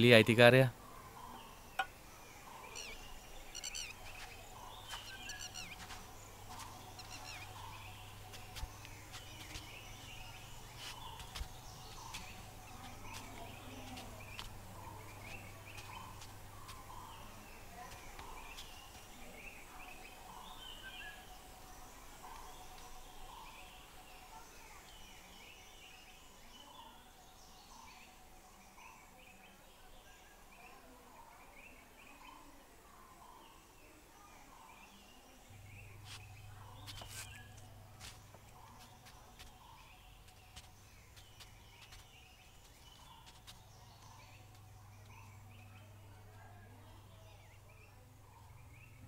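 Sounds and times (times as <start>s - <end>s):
birds calling: 0.0s - 49.0s.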